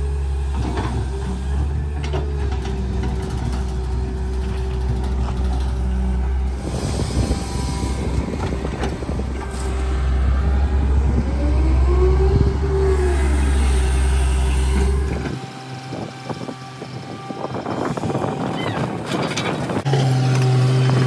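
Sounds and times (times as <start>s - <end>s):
excavator diesel engine: 0.0s - 21.0s
hydraulic whine: 4.0s - 21.0s.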